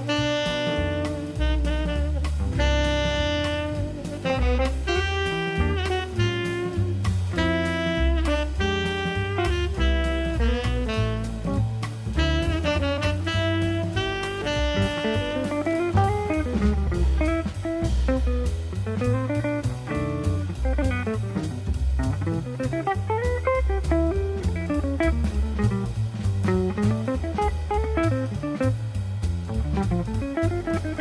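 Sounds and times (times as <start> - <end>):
jazzy blues instrumental music: 0.0 - 31.0.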